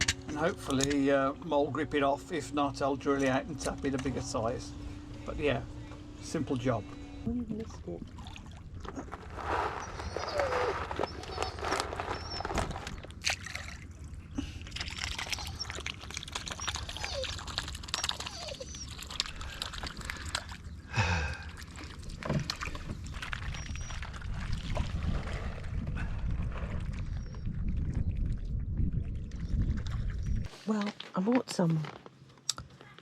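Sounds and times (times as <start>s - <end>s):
water sloshing and splashing: 0.0s - 30.8s.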